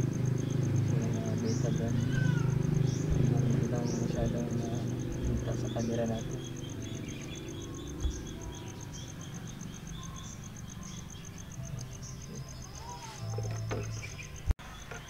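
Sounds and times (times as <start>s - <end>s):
low hum: 0.0s - 12.6s
insects chirping: 0.0s - 15.0s.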